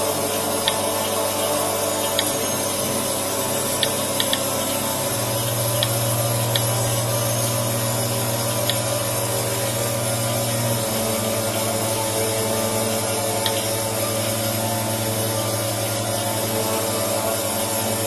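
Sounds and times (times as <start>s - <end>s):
vacuum pump running: 0.0s - 18.0s.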